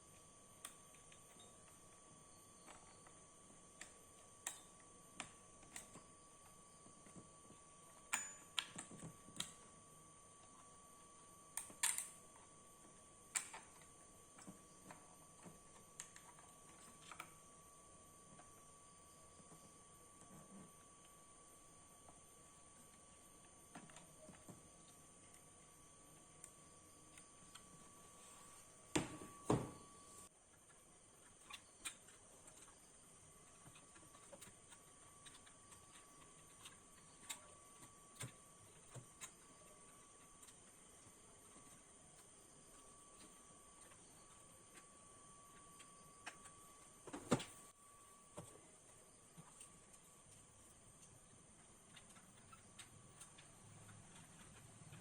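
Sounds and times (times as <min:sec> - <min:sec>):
faint high hum: 0:00.0 - 0:55.0
faint high whine: 0:00.0 - 0:55.0.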